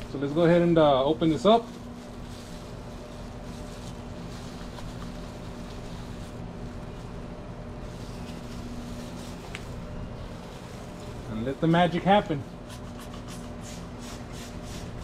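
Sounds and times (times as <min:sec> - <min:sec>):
low mechanical hum: 0:00.0 - 0:15.0
outdoor background noise: 0:00.0 - 0:15.0.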